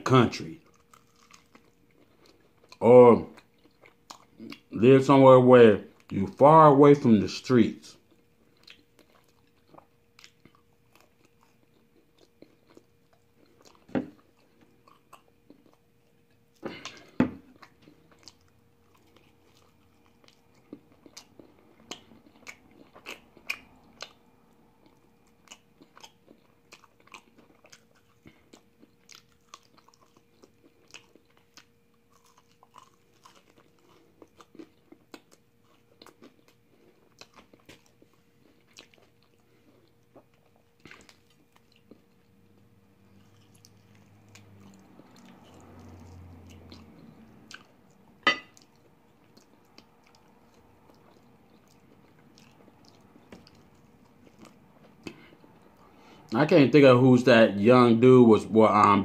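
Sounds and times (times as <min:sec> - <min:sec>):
faint steady hum: 0:00.0 - 0:59.0
chewing crispy chicken: 0:00.1 - 0:04.8, 0:05.8 - 0:56.4.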